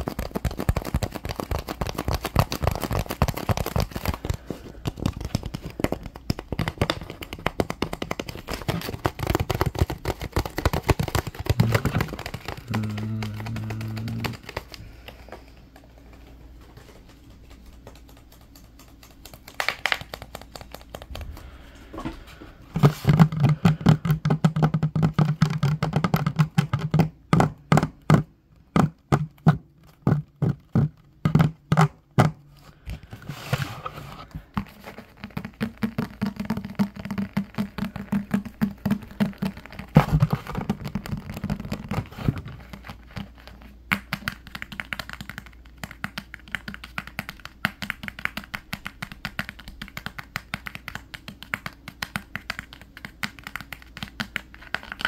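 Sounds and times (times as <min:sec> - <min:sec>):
fingertips tapping on wood: 0:00.0 - 0:33.0, 0:34.4 - 0:55.0.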